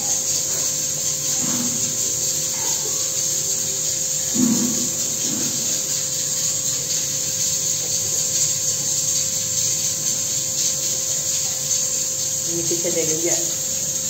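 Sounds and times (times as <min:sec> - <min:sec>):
electric motor hum and whine: 0:00.0 - 0:14.0.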